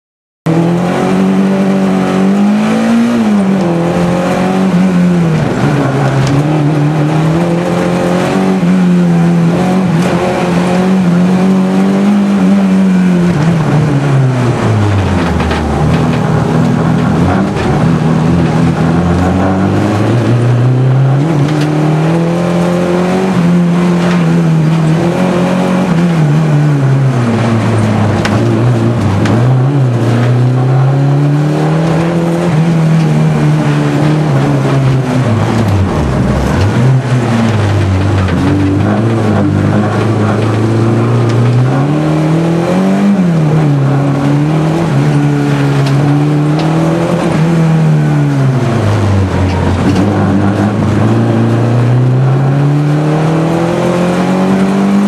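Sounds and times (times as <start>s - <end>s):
car engine revving: 0.5s - 55.0s.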